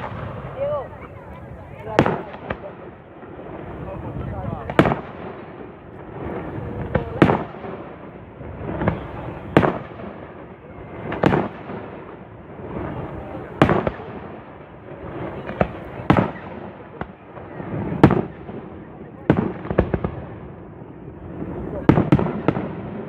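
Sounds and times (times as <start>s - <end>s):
rumble of explosions: 0.0s - 23.0s.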